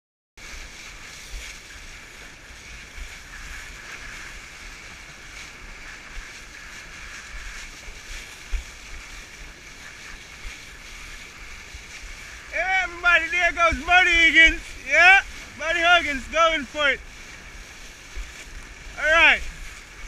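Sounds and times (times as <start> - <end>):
water hiss: 0.4 - 20.0
wind rushing over microphone: 0.6 - 20.0.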